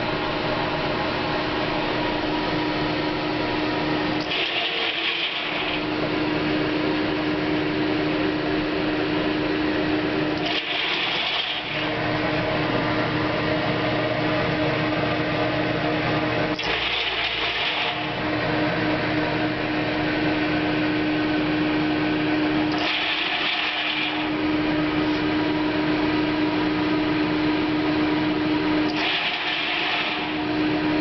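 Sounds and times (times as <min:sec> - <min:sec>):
grain dryer humming: 0:00.0 - 0:31.0.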